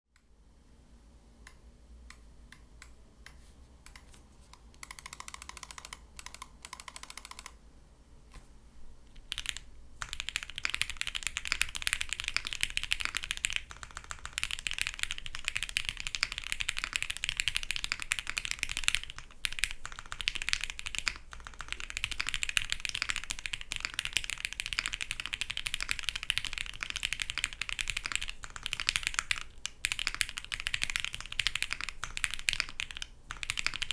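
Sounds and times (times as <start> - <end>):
mechanical keyboard typing: 4.8 - 7.6, 9.1 - 33.9.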